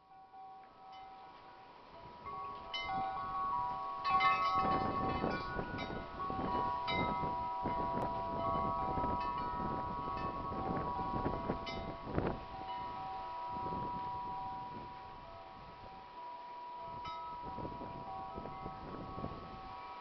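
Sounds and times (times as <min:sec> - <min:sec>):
wind chimes ringing: 0:00.0 - 0:20.0
wind rumbling on microphone: 0:01.9 - 0:16.1, 0:16.8 - 0:20.0.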